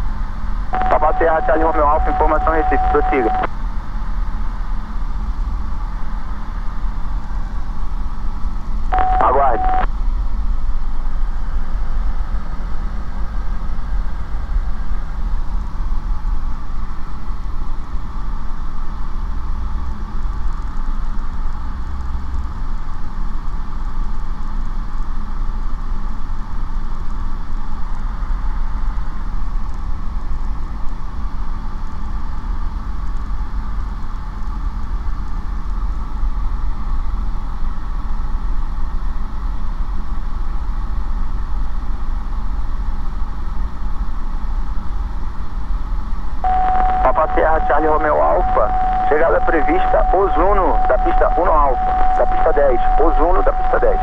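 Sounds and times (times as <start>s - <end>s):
propeller aircraft engine droning: 0.0s - 32.4s, 34.4s - 54.0s.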